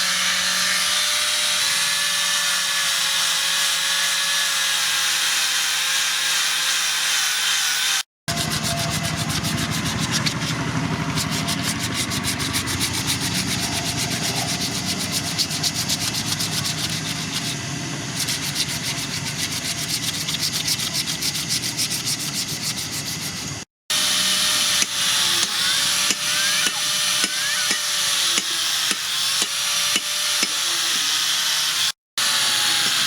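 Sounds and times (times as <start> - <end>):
sanding strokes on a knife: 0.0 - 17.6, 18.2 - 33.0.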